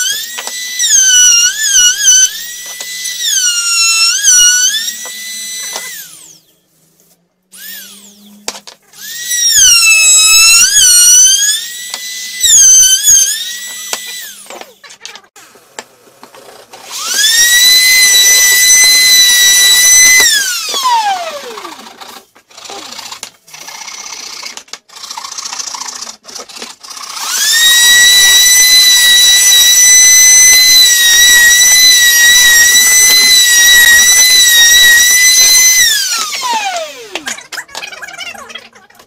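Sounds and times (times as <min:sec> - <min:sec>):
electric trim router whining: 0:00.0 - 0:06.6, 0:07.5 - 0:14.8, 0:15.4 - 0:25.5, 0:26.4 - 0:37.4.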